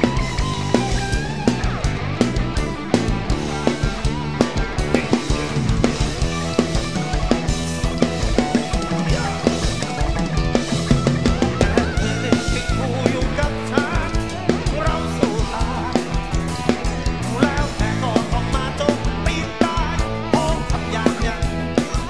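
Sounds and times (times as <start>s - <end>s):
bending lead melody: 0.0s - 22.0s
drum kit steady beat: 0.0s - 22.0s
live folk-rock band: 0.0s - 22.0s.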